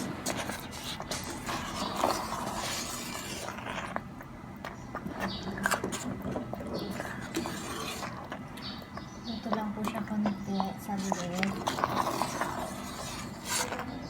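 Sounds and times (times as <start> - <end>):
spoon stirring thick porridge: 0.0 - 14.0.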